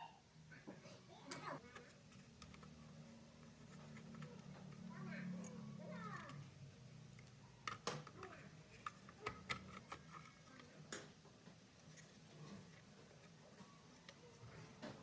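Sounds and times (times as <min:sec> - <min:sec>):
faint low hum: 0:00.0 - 0:15.0
small hard parts clicking: 0:01.3 - 0:15.0.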